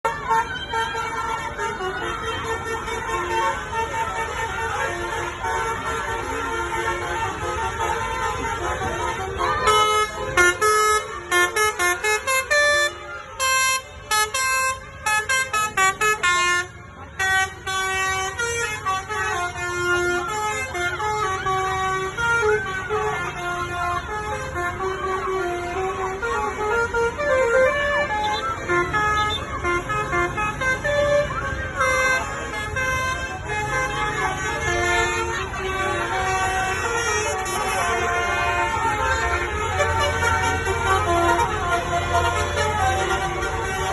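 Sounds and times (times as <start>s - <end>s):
bus musical horn playing a tune: 0.0s - 43.9s.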